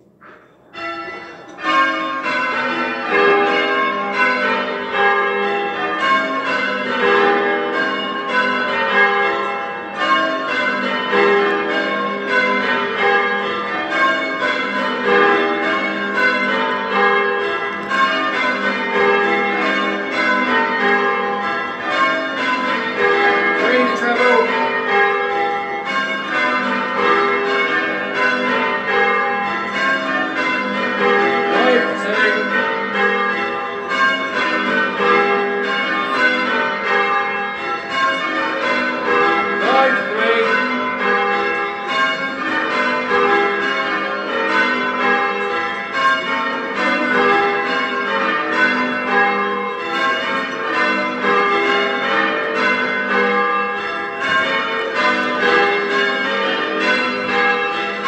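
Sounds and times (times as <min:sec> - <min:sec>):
church bells change ringing: 0:00.0 - 0:58.0.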